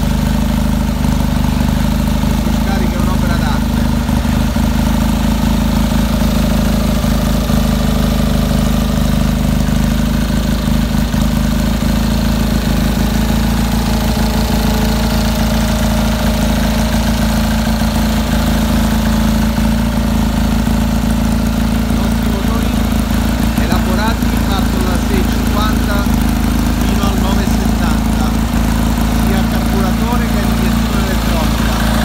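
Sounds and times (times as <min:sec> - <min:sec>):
two-cylinder engine idling: 0:00.0 - 0:32.0.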